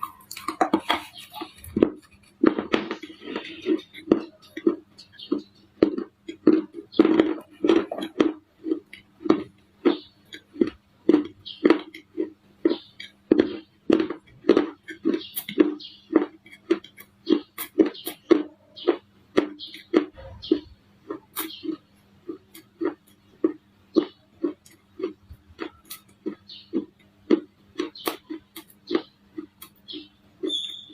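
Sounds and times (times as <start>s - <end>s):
crunchy chewing close up: 0.0s - 30.9s.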